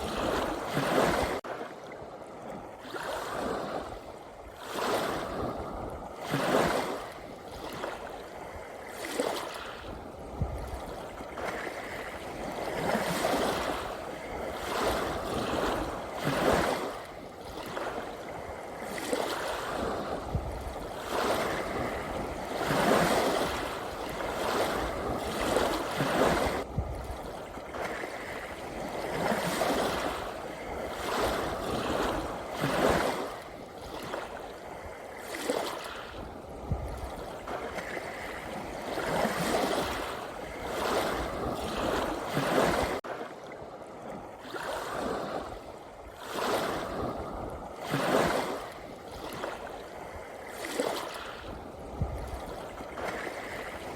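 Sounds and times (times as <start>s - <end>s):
ocean waves washing in: 0.0s - 53.9s.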